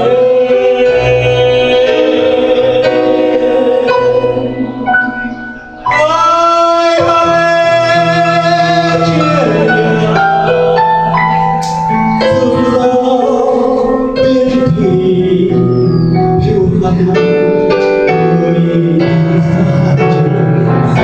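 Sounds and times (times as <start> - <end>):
man singing into a microphone: 0.0 - 4.4, 5.9 - 11.5, 12.2 - 21.0
piano accompaniment: 0.0 - 21.0.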